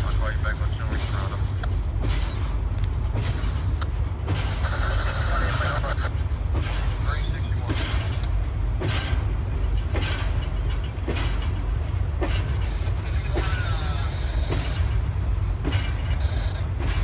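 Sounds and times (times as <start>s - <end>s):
train low rumble: 0.0s - 17.0s
train wheels clicking over rail joints: 0.0s - 17.0s.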